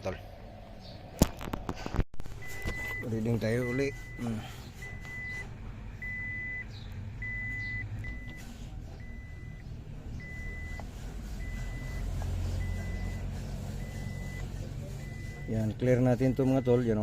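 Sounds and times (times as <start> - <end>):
electronic warning beep: 2.4 - 17.0.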